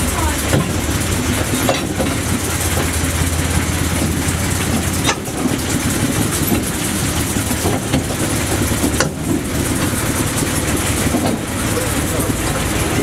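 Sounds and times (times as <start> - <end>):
locomotive engine hum: 0.0 - 13.0
train wheels running on rails: 0.0 - 13.0.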